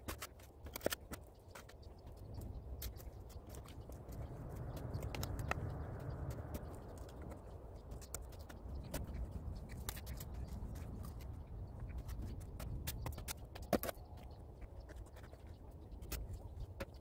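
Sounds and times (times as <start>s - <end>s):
steady low rumble: 2.0s - 16.8s.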